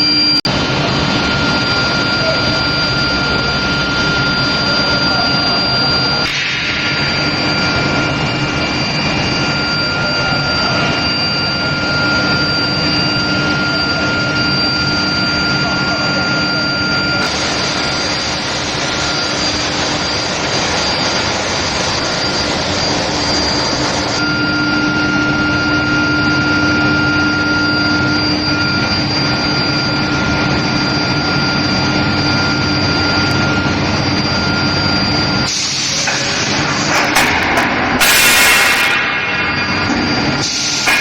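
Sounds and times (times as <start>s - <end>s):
constant whining tones: 0.0s - 41.0s
industrial roar: 0.0s - 41.0s.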